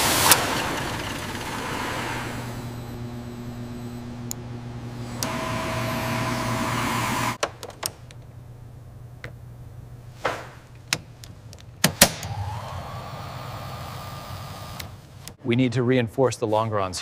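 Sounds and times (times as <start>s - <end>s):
electric machine hum: 0.0s - 11.2s, 12.1s - 15.4s.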